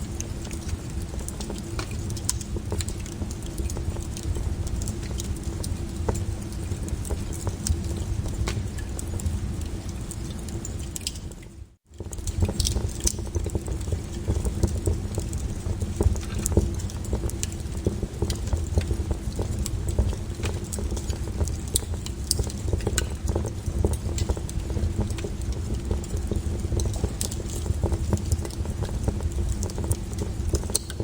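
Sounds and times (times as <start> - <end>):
low rumble of flames: 0.0 - 31.0.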